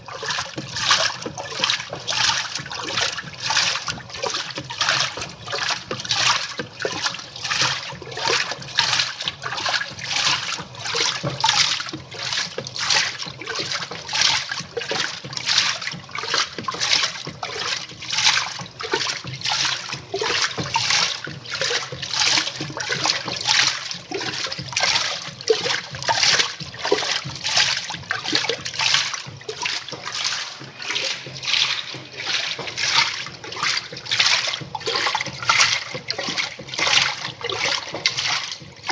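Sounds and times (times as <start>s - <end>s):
water sloshing in washing machine: 0.0s - 38.9s.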